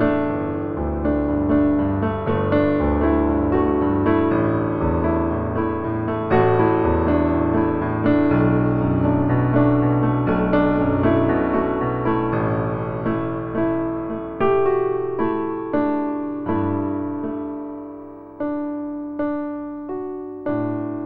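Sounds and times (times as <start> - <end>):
soft slow piano music: 0.0 - 21.0.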